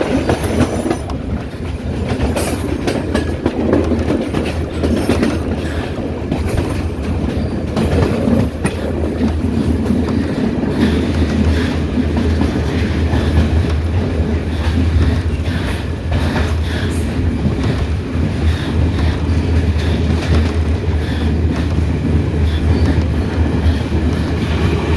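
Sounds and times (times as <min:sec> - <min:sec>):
train running on rails: 0:00.0 - 0:24.9.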